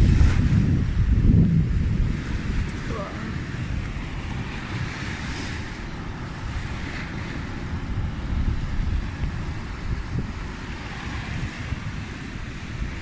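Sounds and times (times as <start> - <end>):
small waves washing on sand: 0.0 - 13.0
wind buffeting microphone: 0.0 - 13.0.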